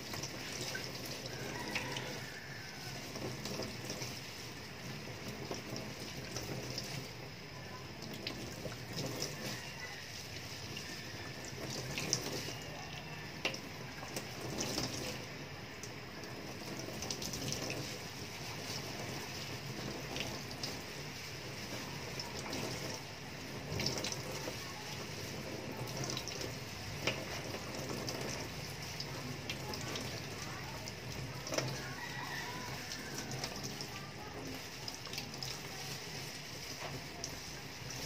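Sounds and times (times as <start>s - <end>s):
tap water running into sink: 0.0s - 38.0s.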